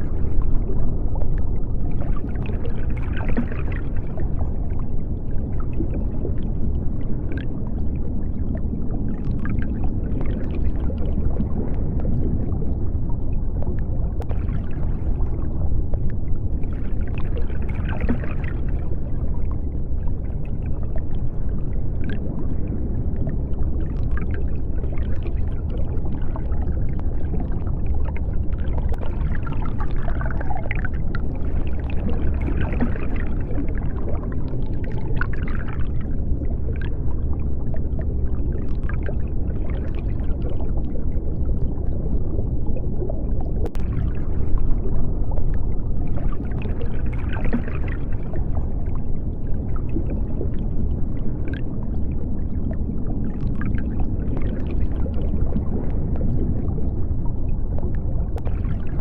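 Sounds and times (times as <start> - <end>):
bubbling and gurgling: 0.0 - 59.0
low underwater rumble: 0.0 - 59.0.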